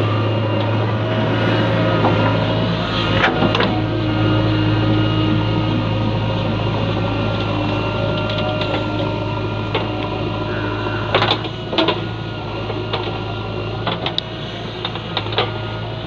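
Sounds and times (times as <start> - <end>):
machine engine running: 0.0 - 16.0.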